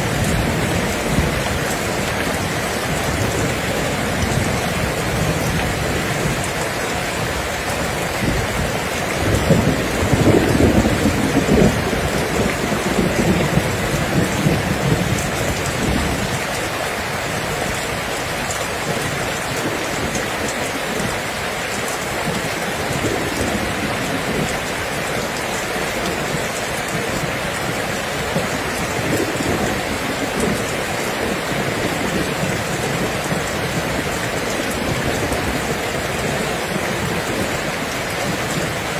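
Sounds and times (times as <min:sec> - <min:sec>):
heavy rain falling: 0:00.0 - 0:38.9
rolling thunder rumble: 0:00.0 - 0:38.9.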